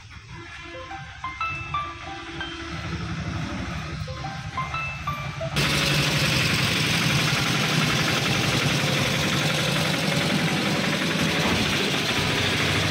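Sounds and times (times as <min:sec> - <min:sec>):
motorcycle engine idling: 0:02.2 - 0:12.9.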